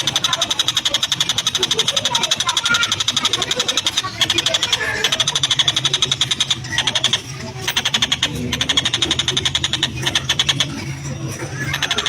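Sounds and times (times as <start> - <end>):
bird rasping chatter: 0.0 - 12.0.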